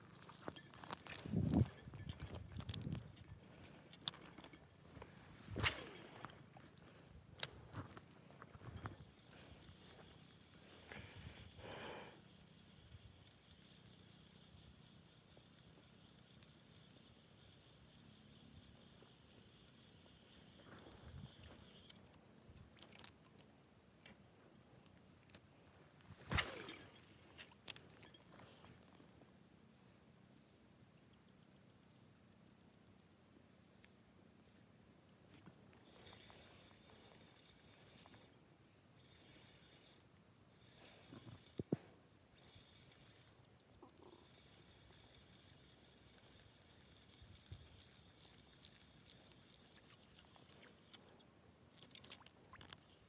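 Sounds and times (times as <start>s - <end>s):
insect trilling at high pitch: 0.1s - 23.2s, 26.2s - 31.1s, 35.8s - 53.0s.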